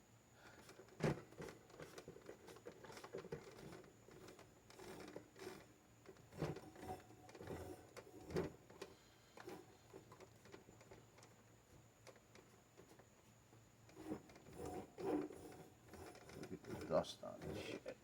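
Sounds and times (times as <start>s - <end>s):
rag rubbing and scraping fan: 0.6s - 11.2s, 13.8s - 18.0s.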